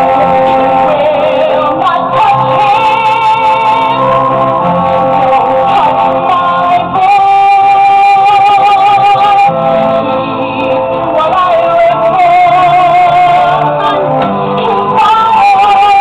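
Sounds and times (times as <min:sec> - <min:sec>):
musical accompaniment: 0:00.0 - 0:16.0
person singing long notes: 0:00.0 - 0:16.0.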